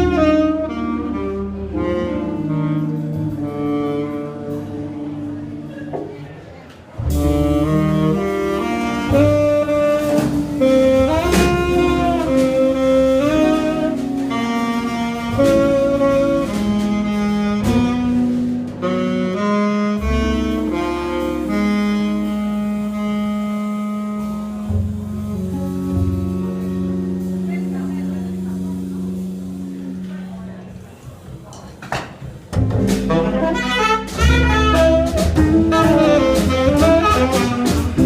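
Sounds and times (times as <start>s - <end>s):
saxophone melody: 0.0s - 5.9s, 7.0s - 30.8s, 32.6s - 38.0s
double bass: 0.0s - 38.0s.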